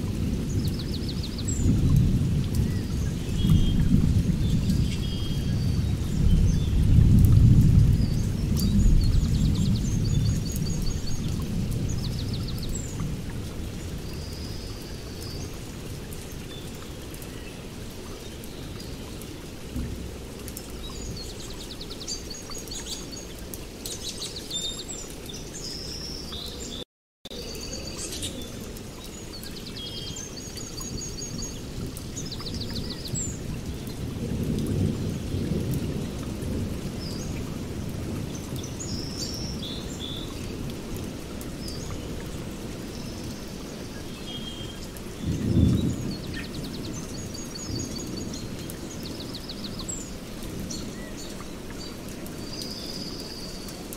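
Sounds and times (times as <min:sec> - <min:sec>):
small birds chirping and trilling: 0:00.3 - 0:19.6, 0:20.4 - 0:53.9.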